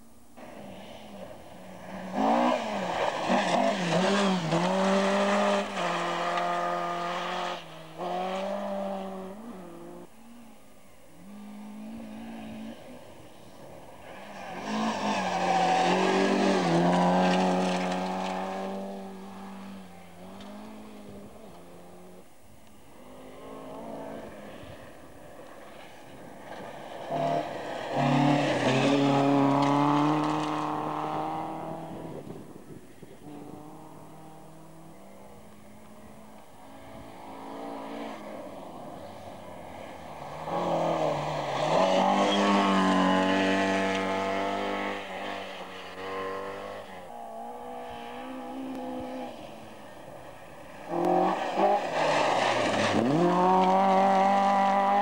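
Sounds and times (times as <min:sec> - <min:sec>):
rally cars revving past: 0:00.4 - 0:55.0.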